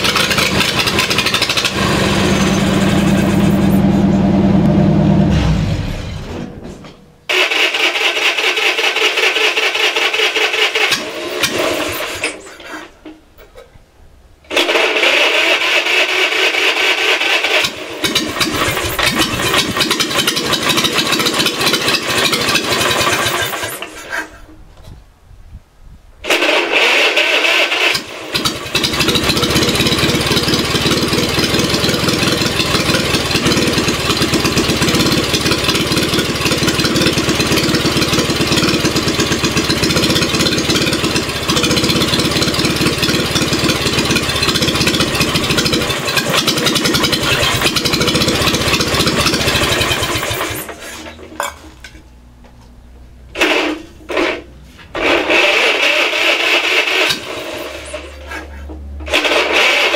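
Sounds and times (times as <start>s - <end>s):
electric starter cranking: 0.0s - 13.2s, 14.5s - 24.6s, 26.2s - 52.0s, 53.2s - 59.9s
engine running: 0.0s - 13.4s, 14.4s - 24.8s, 26.2s - 59.9s.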